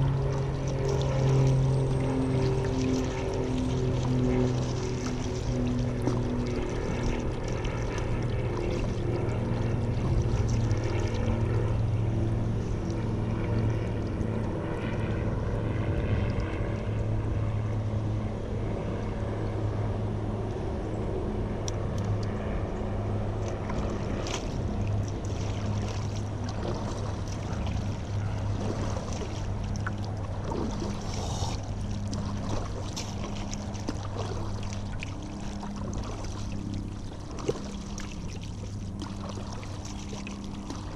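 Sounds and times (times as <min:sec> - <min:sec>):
paddle splashing water: 0:00.0 - 0:17.6, 0:23.3 - 0:40.9
motor engine droning: 0:00.0 - 0:40.9.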